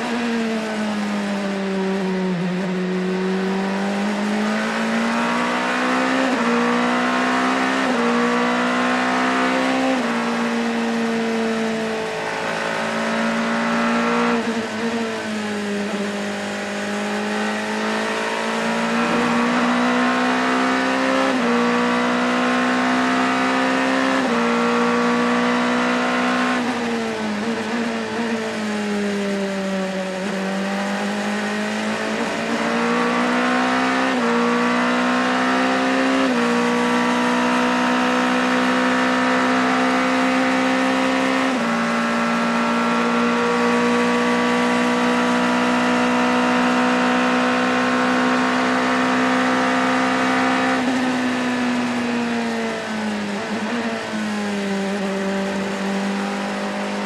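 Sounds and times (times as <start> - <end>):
racing car engine with gear changes: 0.0 - 57.0.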